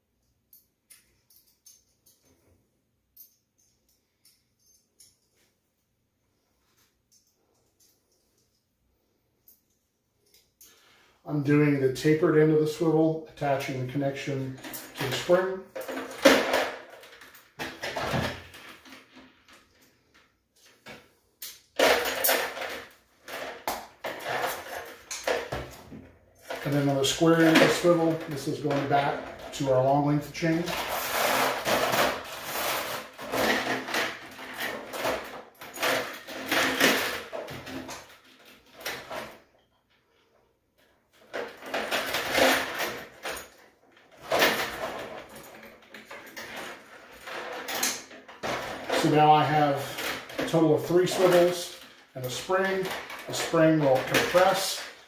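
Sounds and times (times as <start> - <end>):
metal chain and spring clinking: 0.2 - 5.7, 6.8 - 8.8, 9.4 - 20.8, 21.4 - 55.0.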